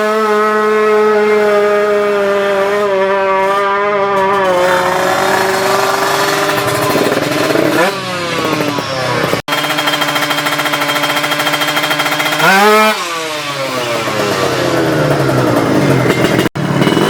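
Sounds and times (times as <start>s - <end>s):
motorbike engines at high revs: 0.0s - 17.0s.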